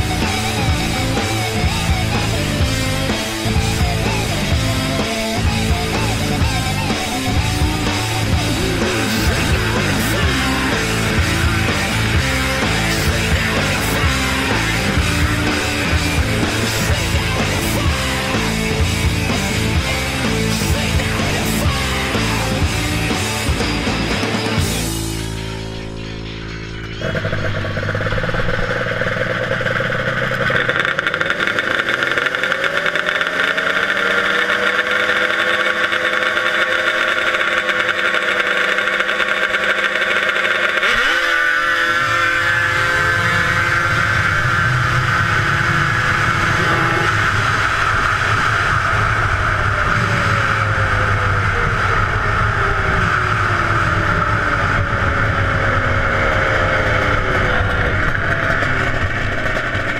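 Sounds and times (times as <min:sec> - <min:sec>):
snowmobile engine revving: 0:00.0 - 0:25.4, 0:27.0 - 0:59.9.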